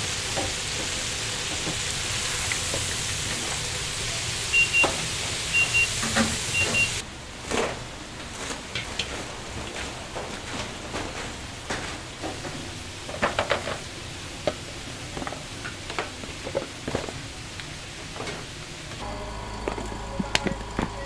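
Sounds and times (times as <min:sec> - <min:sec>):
frying sizzle: 0:00.0 - 0:21.0
mechanical hum: 0:00.0 - 0:21.0
utensils clinking: 0:00.0 - 0:21.0.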